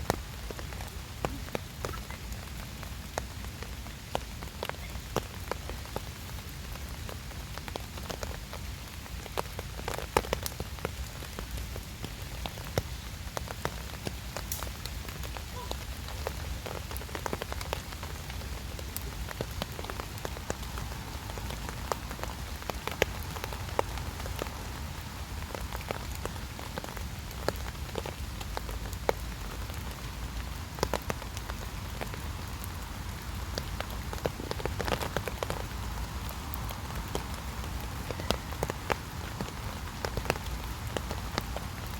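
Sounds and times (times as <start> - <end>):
steady rain: 0.0 - 41.9.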